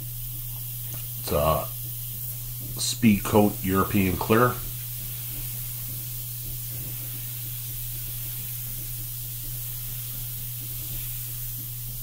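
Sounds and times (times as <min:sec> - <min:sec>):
spray gun hissing: 0:00.0 - 0:12.0
steady low hum: 0:00.0 - 0:12.0.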